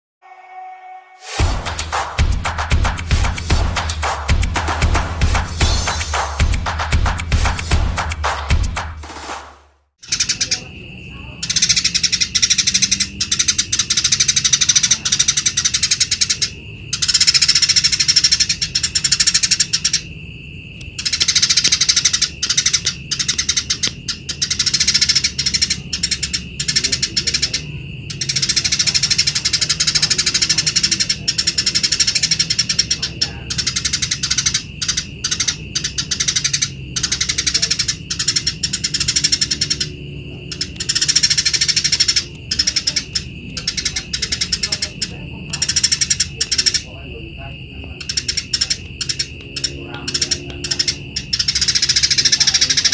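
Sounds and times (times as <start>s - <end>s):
sparrow chattering chirps: 10.0s - 52.9s.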